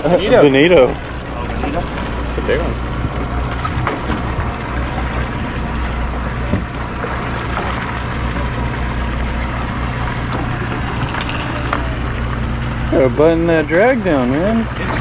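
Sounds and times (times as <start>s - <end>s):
boat engine humming: 0.0s - 15.0s
water rushing along hull: 0.0s - 15.0s.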